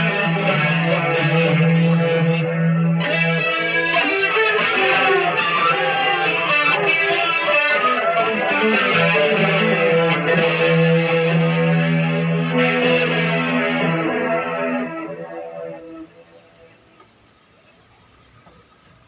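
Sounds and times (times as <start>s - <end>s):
electric guitar with effects: 0.0s - 17.5s.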